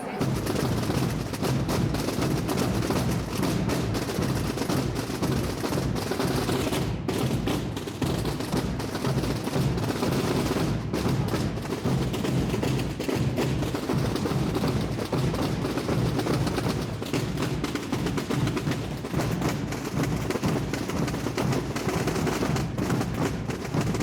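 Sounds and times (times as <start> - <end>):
many drums beating: 0.0 - 24.0.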